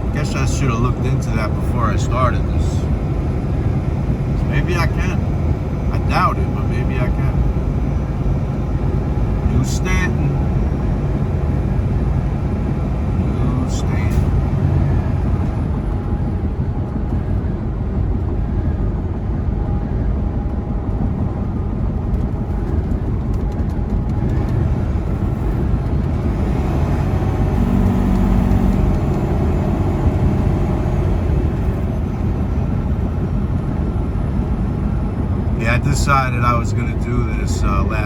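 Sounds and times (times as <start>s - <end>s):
truck engine drone: 0.0s - 38.0s
tyre and road noise: 0.0s - 38.0s.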